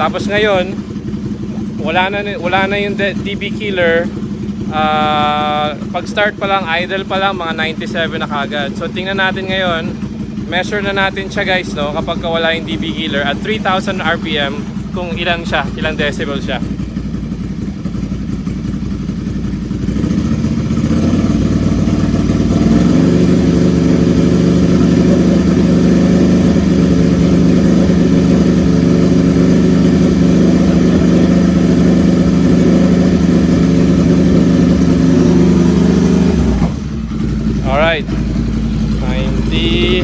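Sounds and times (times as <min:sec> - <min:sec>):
motorcycle engine idling and revving: 0:00.0 - 0:40.0.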